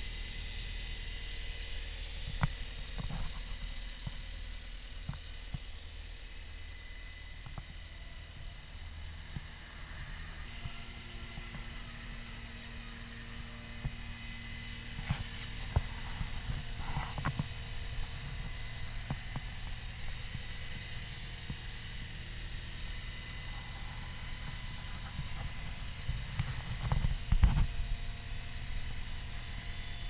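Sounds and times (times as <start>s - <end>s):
diesel engine running: 1.3s - 30.0s.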